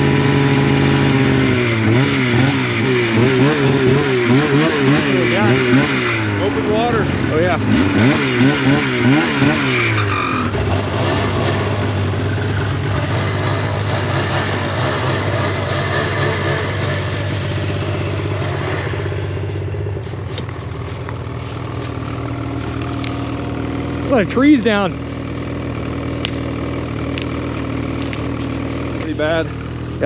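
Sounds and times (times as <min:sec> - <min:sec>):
snowmobile engine running: 0:00.0 - 0:30.0.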